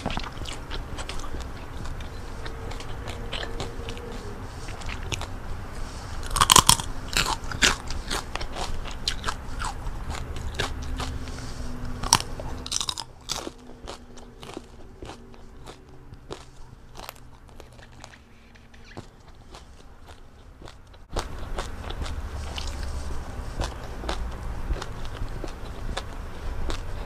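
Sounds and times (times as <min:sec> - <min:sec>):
crunchy food being chewed: 0:00.0 - 0:27.0.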